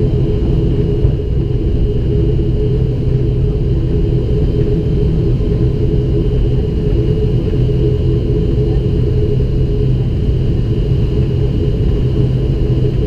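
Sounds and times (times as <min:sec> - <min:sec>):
turboprop engine droning: 0:00.0 - 0:13.0.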